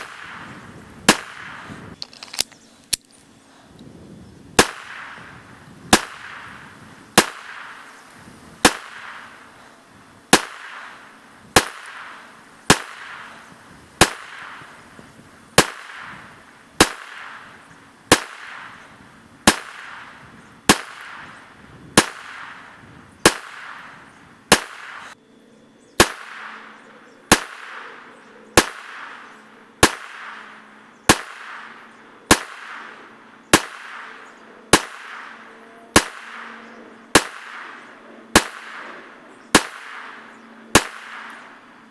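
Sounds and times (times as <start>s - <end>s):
pistol shots with echo: 0.0s - 1.8s, 4.6s - 7.9s, 8.6s - 9.6s, 10.3s - 14.8s, 15.6s - 18.9s, 19.5s - 21.4s, 22.0s - 25.2s, 26.0s - 41.8s.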